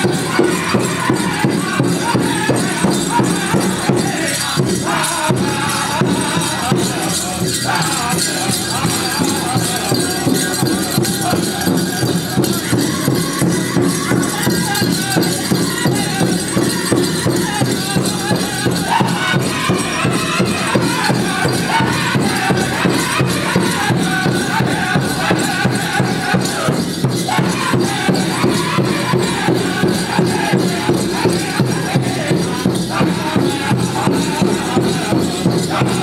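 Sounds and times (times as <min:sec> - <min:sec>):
big drum steady beat: 0:00.0 - 0:36.0
group singing: 0:00.0 - 0:36.0.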